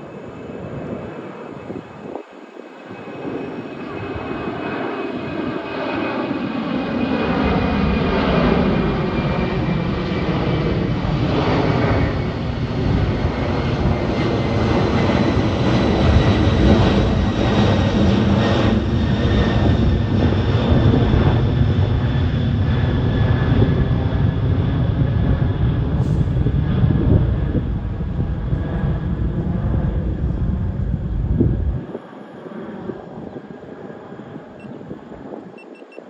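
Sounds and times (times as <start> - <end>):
faint engine whine: 0.0 - 36.0
jet engines roaring: 0.0 - 36.0.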